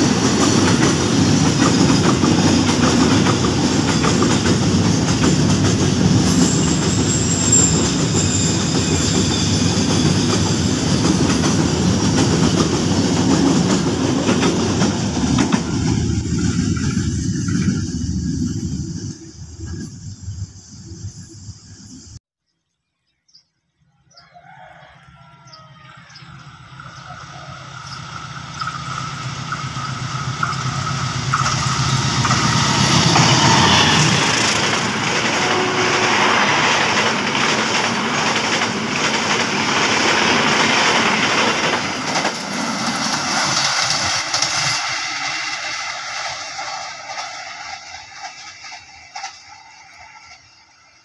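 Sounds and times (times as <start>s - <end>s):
wheels rushing on rails: 0.0s - 22.2s, 25.4s - 51.0s.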